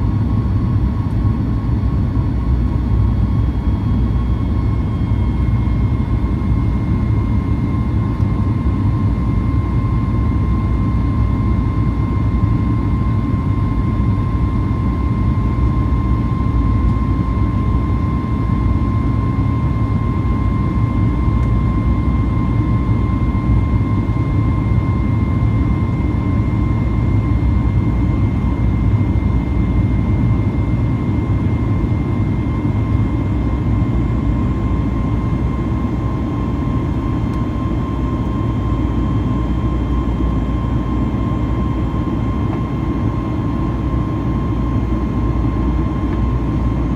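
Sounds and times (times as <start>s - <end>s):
jet engine cabin rumble: 0.0s - 46.9s
jet engine whine: 0.0s - 46.9s.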